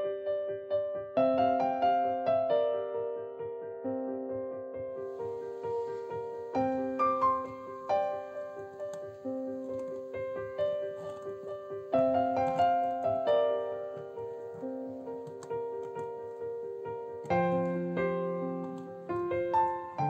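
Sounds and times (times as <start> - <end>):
slow gentle piano music: 0.0 - 20.0.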